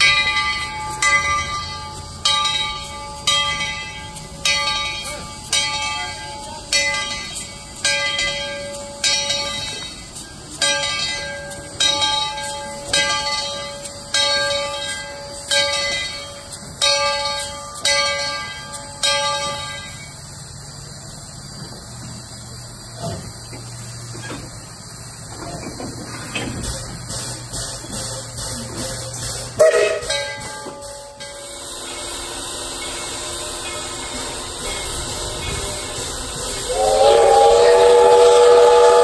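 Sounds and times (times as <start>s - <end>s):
steam locomotive bell ringing: 0.0s - 39.0s.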